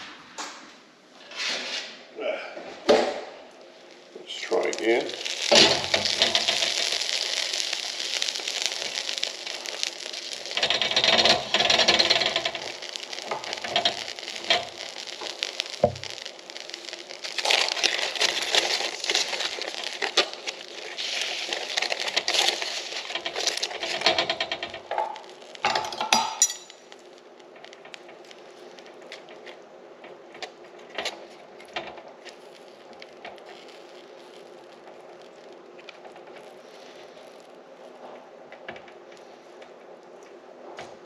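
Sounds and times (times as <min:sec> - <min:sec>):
aluminium foil crinkling: 0:03.6 - 0:40.2.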